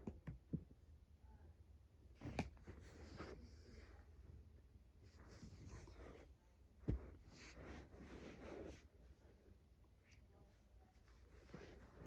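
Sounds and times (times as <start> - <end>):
faint rustling handling noise: 2.2 - 12.0.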